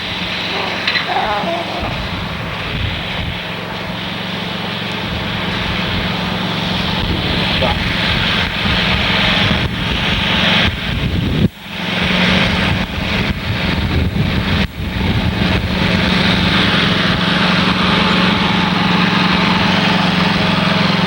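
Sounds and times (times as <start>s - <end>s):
small engine humming: 0.0s - 21.0s.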